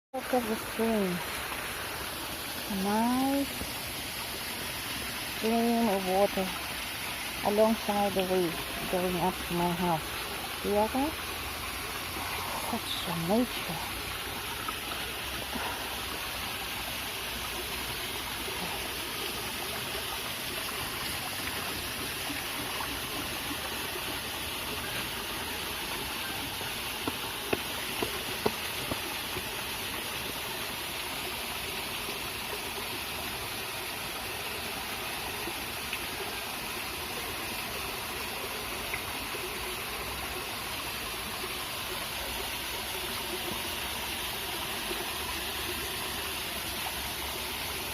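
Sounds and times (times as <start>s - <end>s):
stream flowing over rocks: 0.2s - 47.9s.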